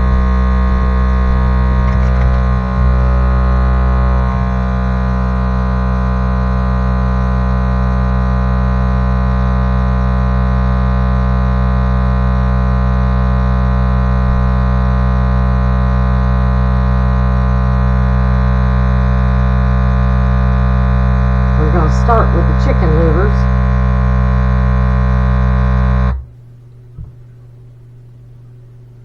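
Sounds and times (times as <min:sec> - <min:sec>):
loud electrical mains hum: 0:00.0 - 0:29.0.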